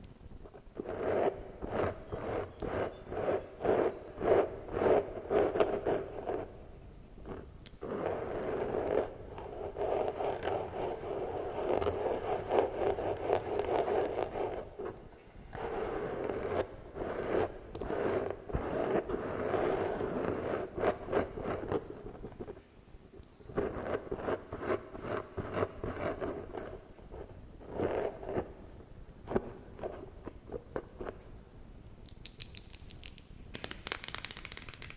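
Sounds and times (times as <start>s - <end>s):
scratching and brushing on microphone: 0.4s - 6.6s, 7.2s - 22.7s, 23.4s - 31.3s.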